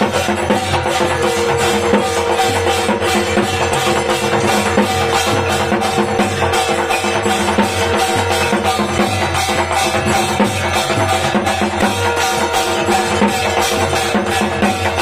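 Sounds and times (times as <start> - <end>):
quick drumming: 0.0 - 15.0
steady ringing tones: 0.0 - 15.0.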